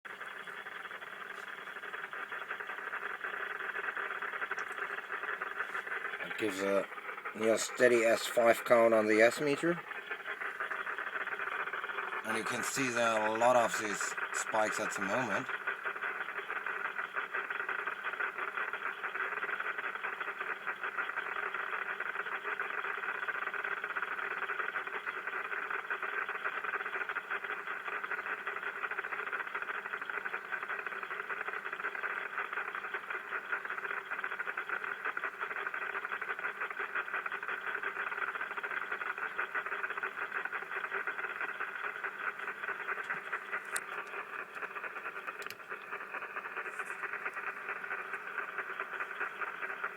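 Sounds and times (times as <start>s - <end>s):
crackling radio static hiss: 0.0s - 49.9s.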